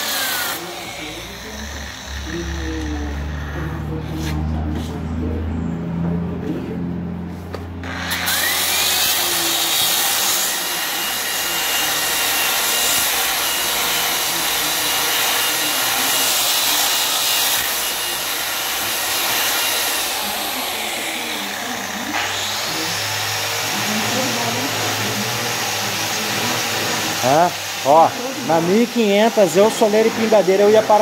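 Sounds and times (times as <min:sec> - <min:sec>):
electric polisher grinding stone: 0:00.0 - 0:03.9, 0:07.8 - 0:31.0.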